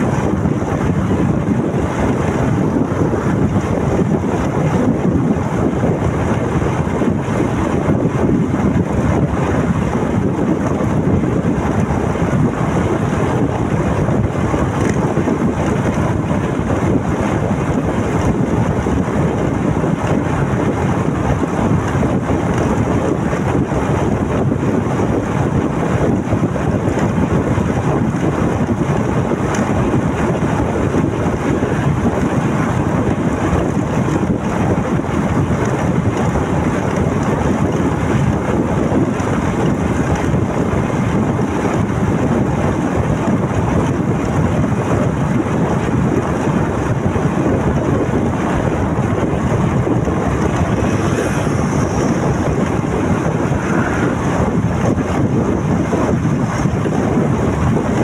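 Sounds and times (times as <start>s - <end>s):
motorcycle engine and road noise: 0.0s - 58.0s
wind buffeting microphone: 0.0s - 58.0s.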